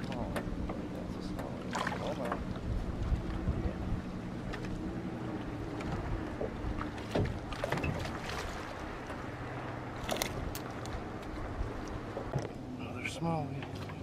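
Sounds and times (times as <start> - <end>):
lake water lapping: 0.0 - 12.7
wind: 0.0 - 14.0.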